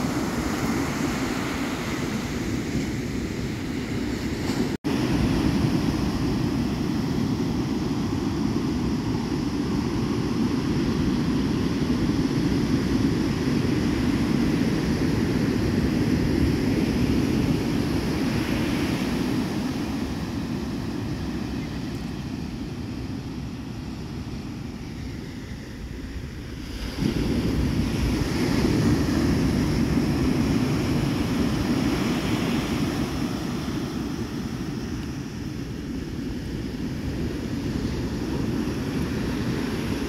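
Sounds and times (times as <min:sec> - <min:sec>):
ocean surf breaking: 0:00.0 - 0:40.0
wind on the microphone: 0:00.0 - 0:40.0.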